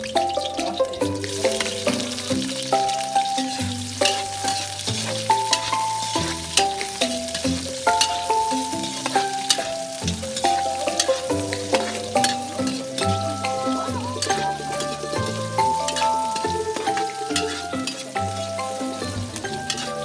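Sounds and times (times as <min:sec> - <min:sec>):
background music: 0:00.0 - 0:20.0
garlic and onion sizzling: 0:00.0 - 0:20.0
spatula scraping wok: 0:00.0 - 0:20.0.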